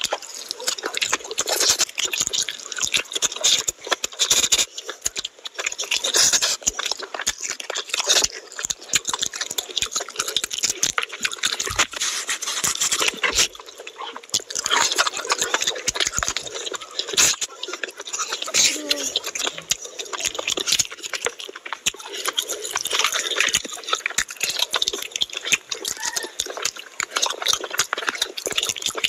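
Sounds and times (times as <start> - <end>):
wet chewing and lip smacking: 0.0 - 29.0.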